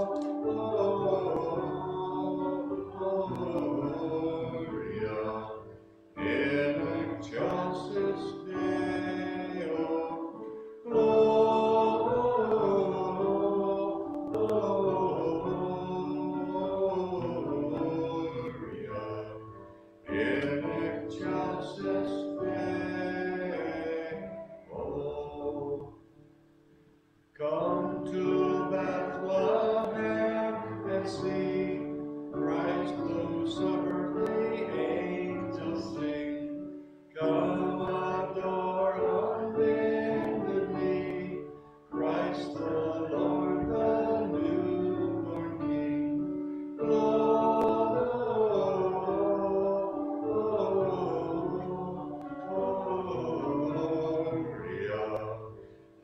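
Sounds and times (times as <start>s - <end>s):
hymn singing: 0.0s - 56.0s.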